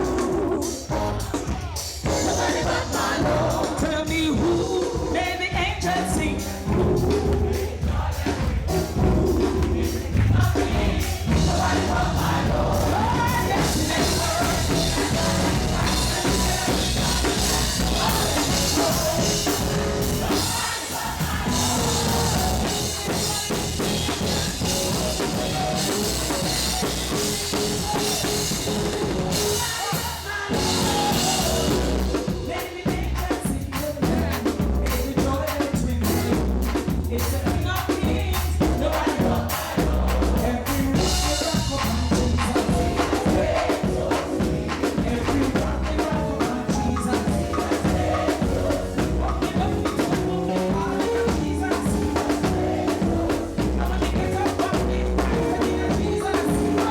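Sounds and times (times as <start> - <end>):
gospel band playing: 0.0 - 56.9
people singing: 0.0 - 56.9.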